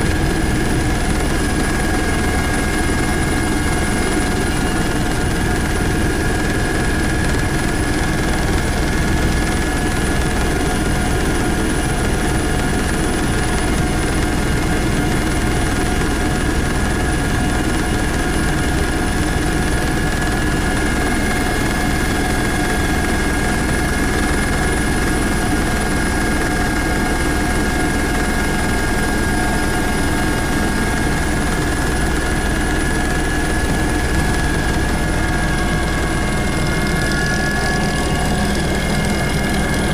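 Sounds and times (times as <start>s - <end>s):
constant high whine: 0.0s - 39.9s
helicopter rotor and engine noise: 0.0s - 39.9s.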